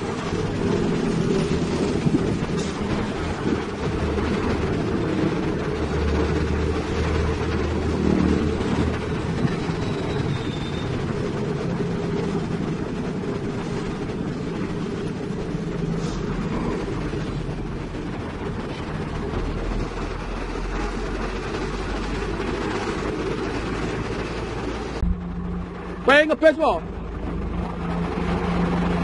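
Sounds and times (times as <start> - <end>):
diesel machinery rumbling: 0.0 - 29.0.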